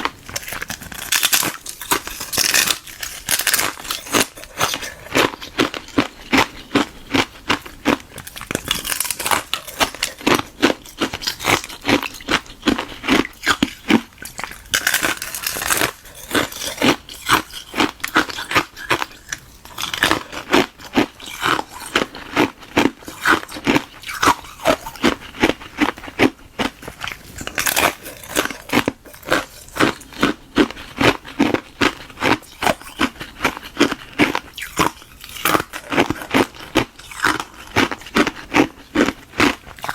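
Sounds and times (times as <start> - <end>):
chewing hard ice crunches: 0.0 - 39.9.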